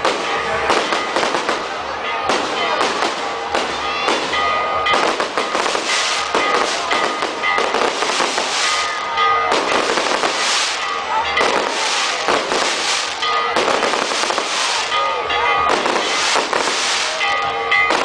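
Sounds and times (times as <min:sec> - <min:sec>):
fireworks crackling bangs: 0:00.0 - 0:18.0.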